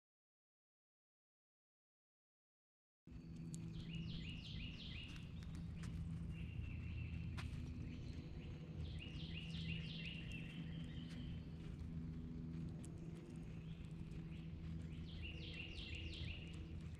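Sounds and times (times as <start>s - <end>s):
songbird singing: 3.1s - 16.9s
steady low hum: 3.1s - 16.9s.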